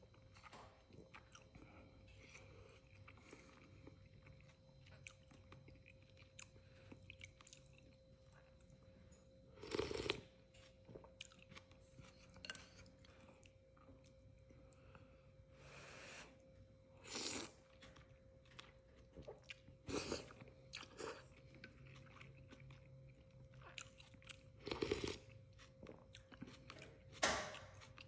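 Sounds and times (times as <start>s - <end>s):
quiet chewing: 0.0s - 15.3s, 16.3s - 28.0s.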